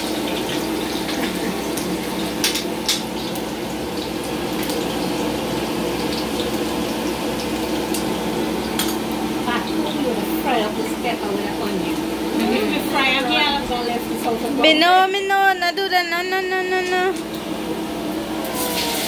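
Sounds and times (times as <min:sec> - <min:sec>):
fish sizzling in hot oil: 0:00.0 - 0:14.6, 0:17.4 - 0:19.0.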